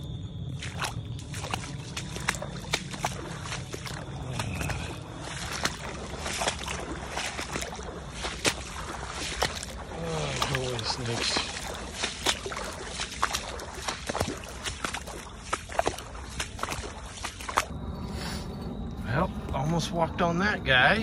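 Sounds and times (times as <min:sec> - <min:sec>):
footsteps sloshing through mud: 0:00.0 - 0:17.9
wet brush snapping: 0:00.6 - 0:17.7.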